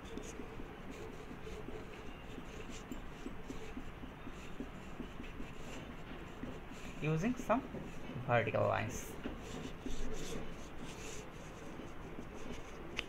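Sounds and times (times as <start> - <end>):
marker pen strokes on whiteboard: 0.0 - 13.0.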